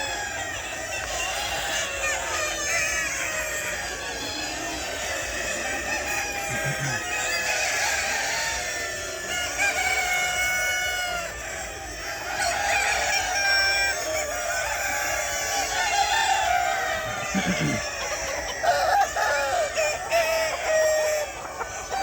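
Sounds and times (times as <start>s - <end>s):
chickens clucking: 0.0s - 22.0s
roosters crowing: 0.0s - 22.0s.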